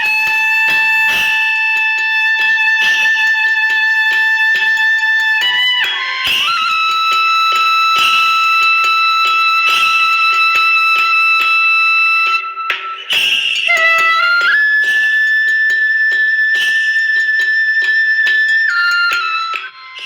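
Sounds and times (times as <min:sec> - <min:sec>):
steady beat: 0:00.0 - 0:19.8
held wind instrument melody: 0:00.0 - 0:20.0.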